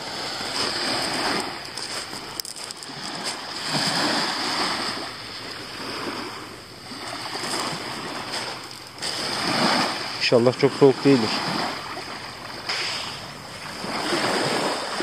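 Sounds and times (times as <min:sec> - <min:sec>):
waves washing onto pebble beach: 0:00.0 - 0:15.0.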